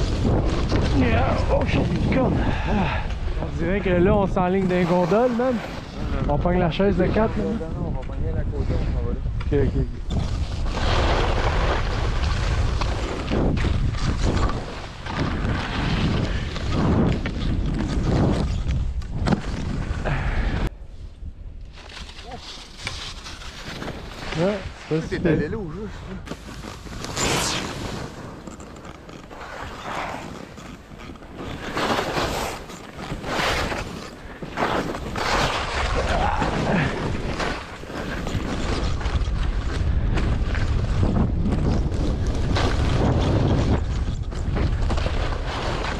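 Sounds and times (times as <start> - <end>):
skis scraping snow: 0.0 - 7.7, 10.2 - 20.0, 21.7 - 45.9
wind buffeting microphone: 0.0 - 22.1, 29.3 - 45.9.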